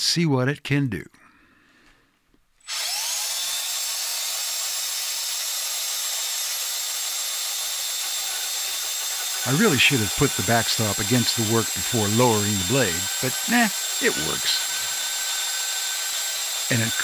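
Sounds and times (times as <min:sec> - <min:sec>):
bandsaw motor whirring: 0:02.6 - 0:17.0.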